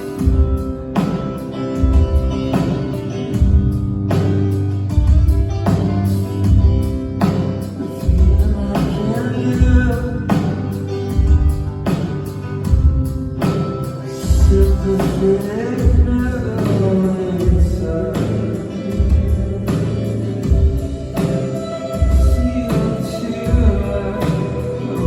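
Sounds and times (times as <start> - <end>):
live rock band: 0.0 - 25.0.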